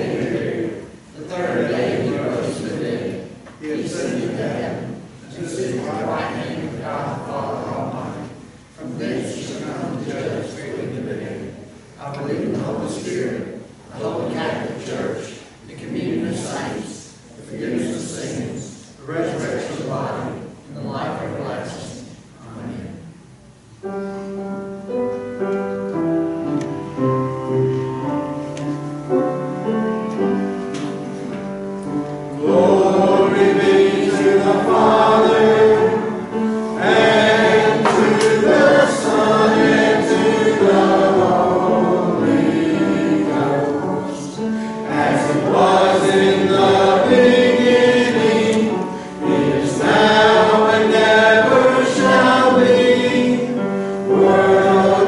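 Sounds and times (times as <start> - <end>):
congregation singing a hymn: 0.0 - 23.2, 23.9 - 55.0.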